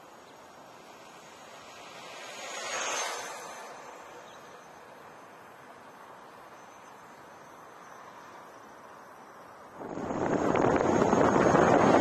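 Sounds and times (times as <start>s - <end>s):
electric unicycle passing by: 0.1s - 12.0s.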